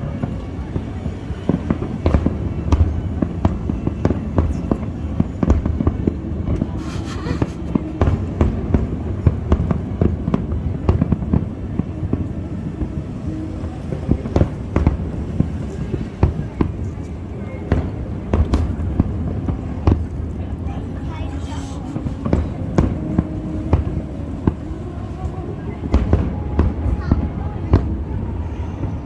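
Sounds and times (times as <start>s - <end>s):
firework hiss: 0.0s - 29.0s
fireworks bangs: 0.0s - 29.0s.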